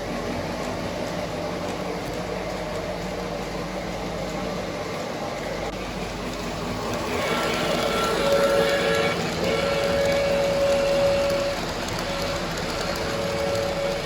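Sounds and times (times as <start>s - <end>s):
model trains rumbling on track: 0.0s - 14.0s.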